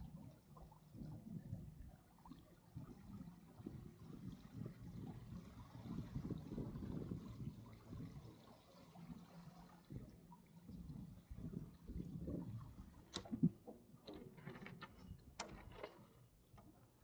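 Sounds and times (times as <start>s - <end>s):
water lapping against hull: 0.0s - 14.2s.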